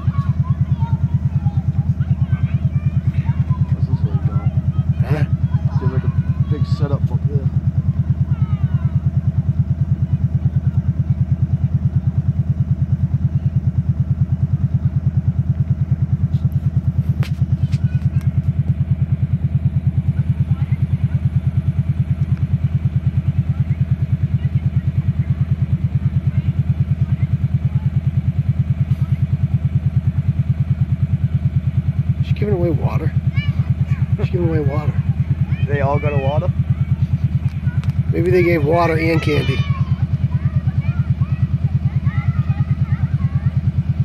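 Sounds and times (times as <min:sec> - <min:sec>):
tractor engine idling: 0:00.0 - 0:44.0.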